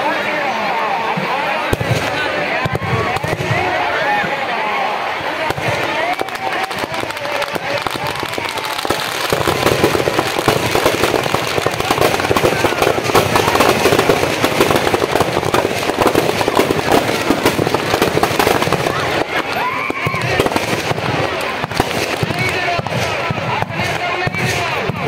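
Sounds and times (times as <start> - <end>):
crowd voices: 0.0 - 25.0
firecrackers crackling: 0.0 - 25.0.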